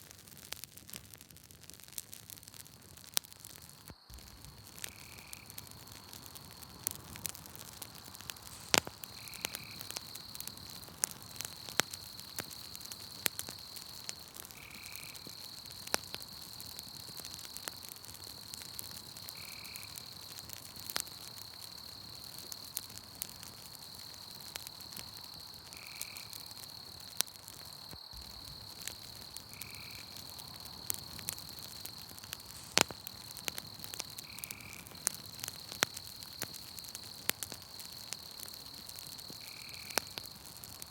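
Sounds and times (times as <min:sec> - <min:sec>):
campfire crackling and popping: 0:00.0 - 0:40.9
high-pitched insect trill: 0:03.6 - 0:17.8, 0:18.4 - 0:40.8.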